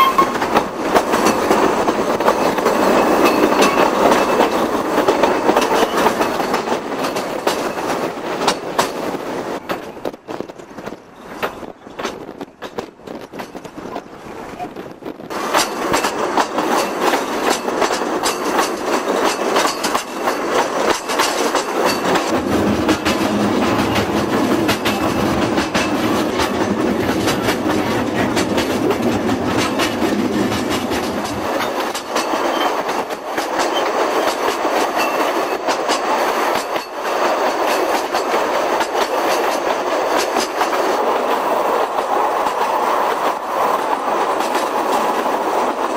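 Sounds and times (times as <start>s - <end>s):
train wheels clattering over rails: 0.0s - 45.9s.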